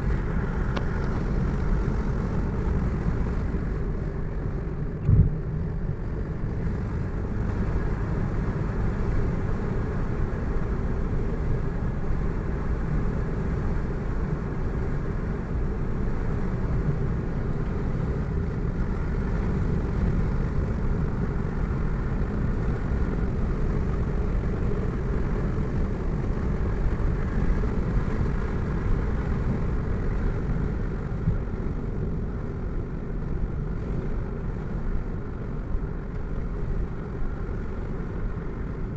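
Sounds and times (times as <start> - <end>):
car driving on road: 0.0 - 38.9.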